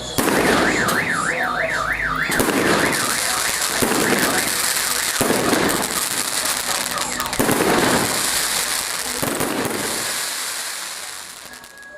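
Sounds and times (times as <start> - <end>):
fireworks crackling and bursting: 0.0 - 11.9.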